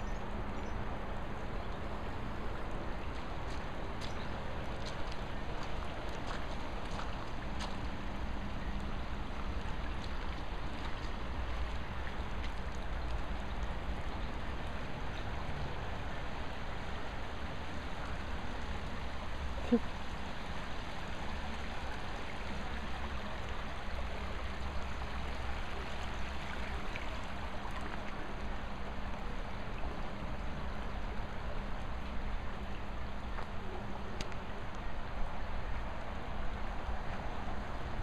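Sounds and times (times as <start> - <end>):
water rushing and trickling: 0.0 - 38.0.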